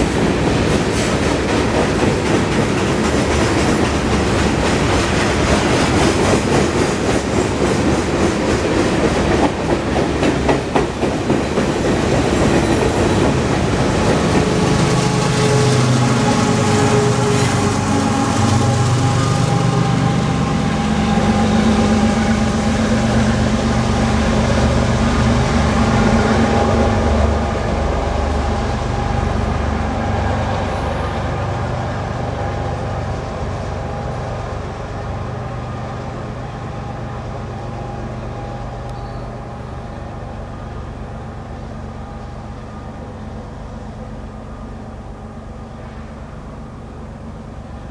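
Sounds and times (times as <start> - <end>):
diesel locomotive engine drone: 0.0 - 47.9
rumble of freight cars: 0.0 - 47.9.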